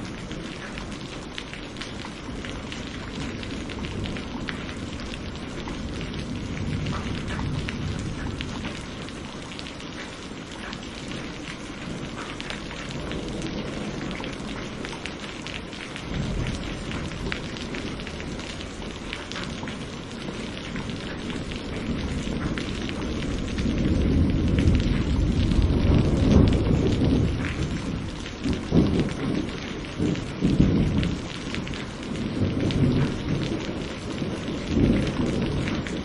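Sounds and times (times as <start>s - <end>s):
rain pattering: 0.0s - 36.0s
rolling thunder: 2.2s - 9.4s, 11.0s - 36.0s.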